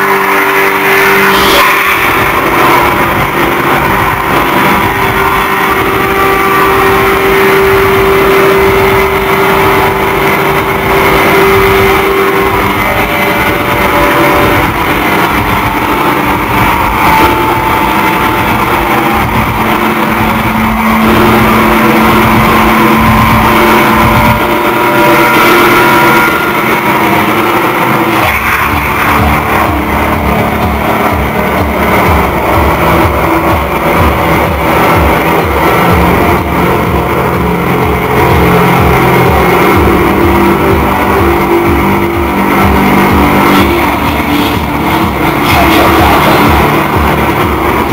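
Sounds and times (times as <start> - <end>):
distorted rock band playing: 0.0 - 47.9
long held synth notes: 0.0 - 47.9.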